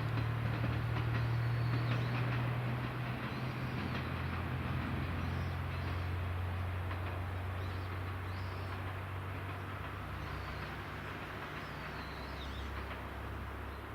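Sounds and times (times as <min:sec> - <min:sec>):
train engine hum: 0:00.0 - 0:13.9.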